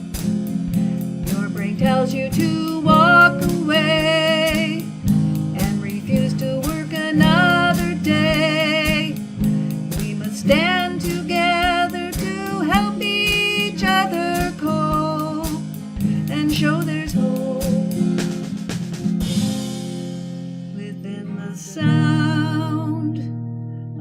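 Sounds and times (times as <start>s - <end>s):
steady drum beat: 0.0s - 20.6s
strummed acoustic guitar: 0.0s - 24.0s.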